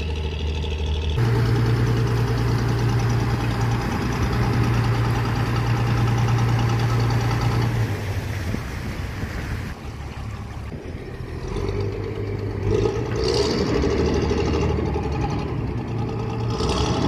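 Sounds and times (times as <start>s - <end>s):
ferry engine running: 0.0s - 17.0s.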